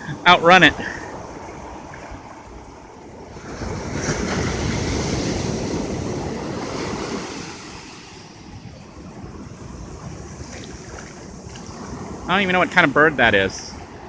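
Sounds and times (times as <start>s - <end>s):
wave breaking on beach: 0.0s - 14.0s
wind buffeting microphone: 0.0s - 14.0s.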